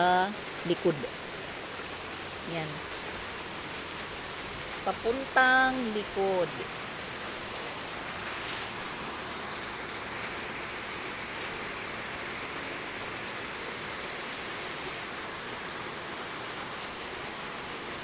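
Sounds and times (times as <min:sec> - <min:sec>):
rain and water running off: 0:00.0 - 0:18.0.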